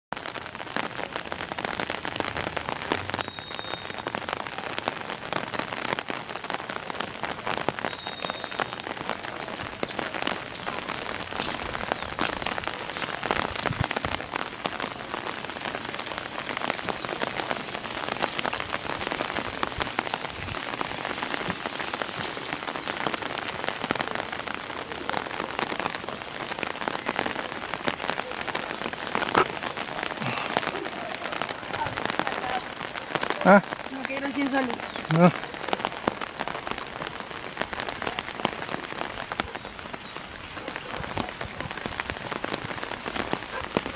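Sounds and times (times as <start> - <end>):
rain on wet paving: 0.0 - 43.9.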